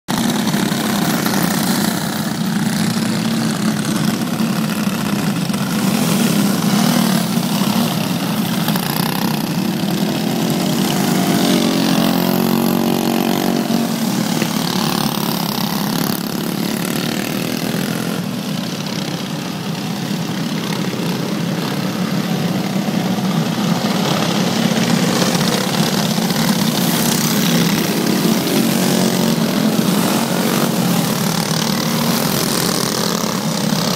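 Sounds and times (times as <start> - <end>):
racing kart engines droning: 0.1 - 33.9.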